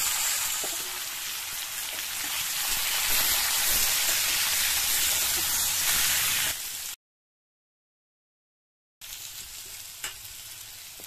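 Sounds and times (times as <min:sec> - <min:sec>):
food sizzling in hot oil: 0:00.0 - 0:07.0, 0:09.0 - 0:11.0.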